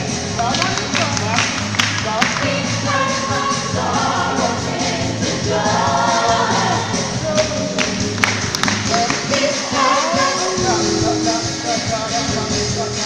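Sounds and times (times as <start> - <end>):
bass line: 0.0 - 13.0
gospel choir singing: 2.0 - 13.0.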